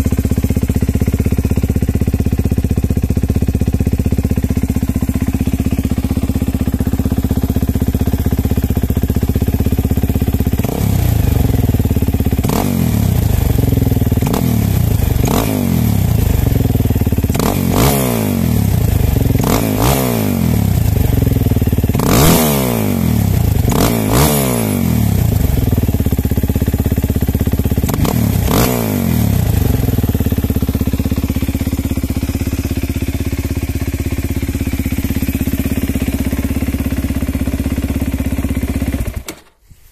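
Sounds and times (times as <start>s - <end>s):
motorcycle engine idling and revving: 0.0s - 39.4s.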